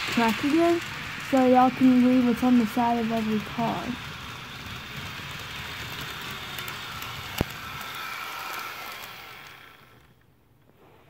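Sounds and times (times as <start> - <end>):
wheels rattling on rails: 0.0 - 10.2
small electric motor whining: 0.0 - 10.3.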